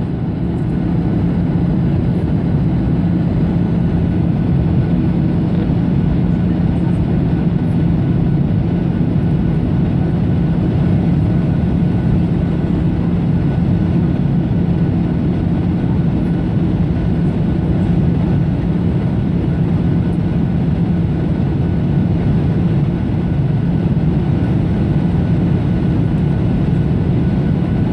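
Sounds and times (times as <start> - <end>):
airplane cabin drone: 0.0 - 27.9.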